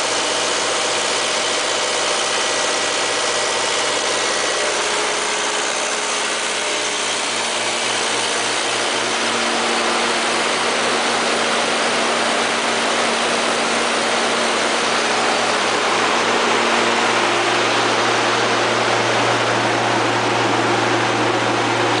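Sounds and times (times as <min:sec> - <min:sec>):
diesel generator humming: 0:00.0 - 0:22.0.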